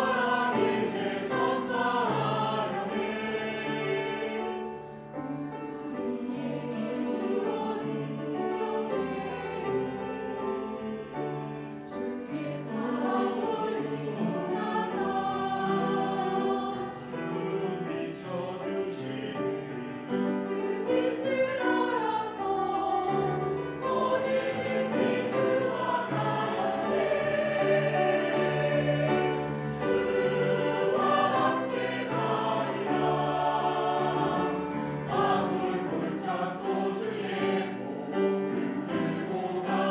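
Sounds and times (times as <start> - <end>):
mixed choir singing a hymn: 0.0 - 39.9.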